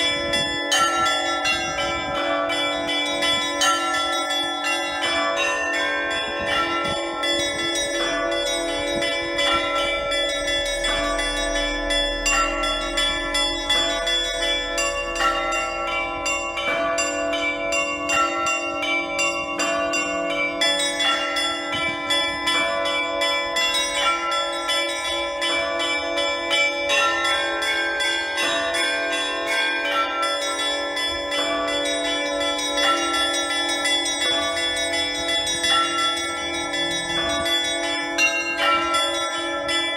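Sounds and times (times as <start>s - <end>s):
low bell ringing: 0.0s - 39.9s.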